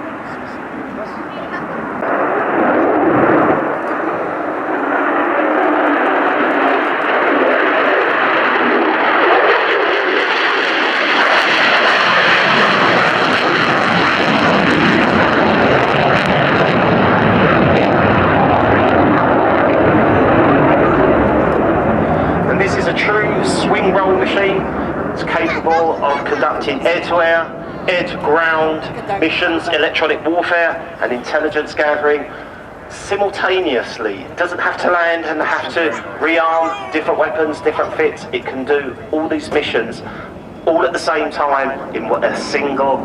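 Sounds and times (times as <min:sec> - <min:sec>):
jet engine roaring: 0:00.0 - 0:43.0.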